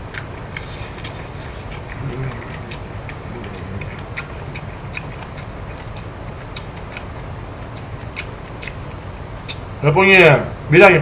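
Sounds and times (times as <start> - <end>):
person chewing food: 0.0 - 9.7
steady low hum: 0.0 - 11.0.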